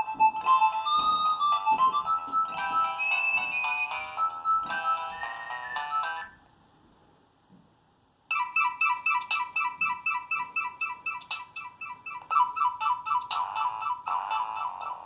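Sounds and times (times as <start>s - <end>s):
phone ringtone melody: 0.0s - 6.4s, 8.3s - 15.0s.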